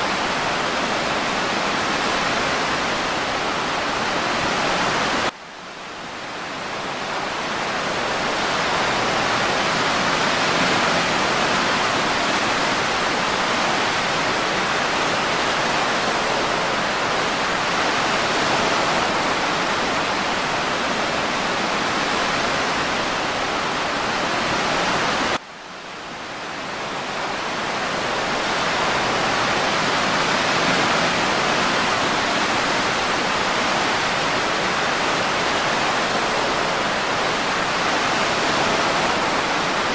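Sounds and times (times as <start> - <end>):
ocean surf and breeze: 0.0 - 39.9.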